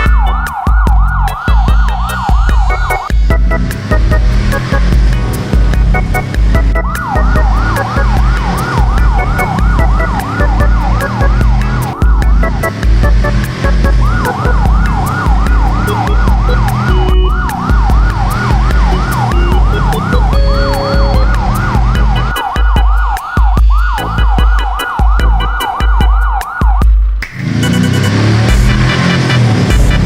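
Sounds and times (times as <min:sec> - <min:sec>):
electronic yelp siren: 0:00.0 - 0:04.9, 0:05.9 - 0:26.9
thumping bass beat: 0:00.0 - 0:30.0.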